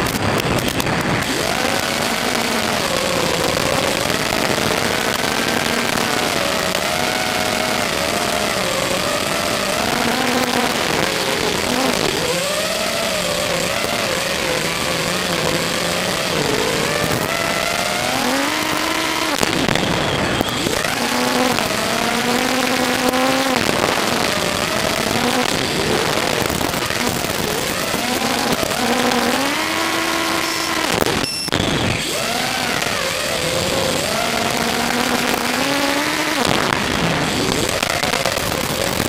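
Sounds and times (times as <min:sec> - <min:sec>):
quadcopter motors whining: 0:00.0 - 0:39.0.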